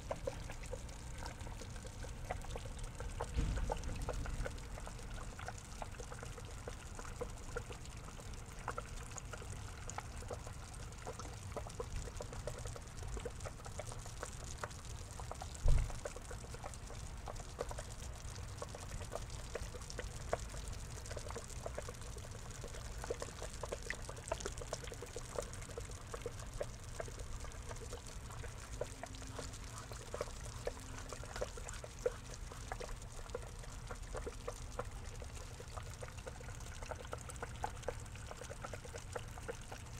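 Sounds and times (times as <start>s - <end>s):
water drips and splashes: 0.0s - 39.9s
water trickling into pond: 0.0s - 39.9s.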